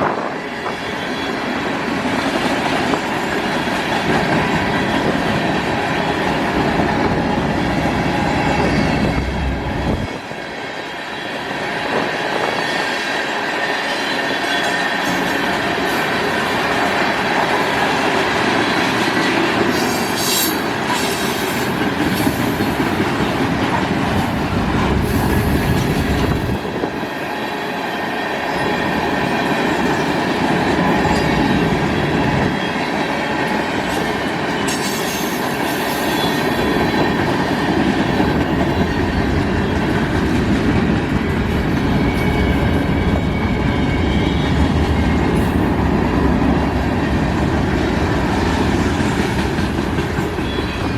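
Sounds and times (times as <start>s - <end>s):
train wheels rumbling on rail: 0.0s - 50.9s
clickety-clack over rail joints: 1.8s - 10.1s, 14.6s - 27.1s, 28.8s - 43.4s, 44.3s - 50.9s.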